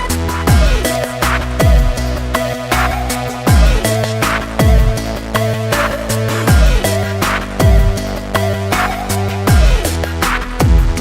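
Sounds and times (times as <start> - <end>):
deep bass hits: 0.0 - 11.0
sustained synth chords: 0.0 - 11.0.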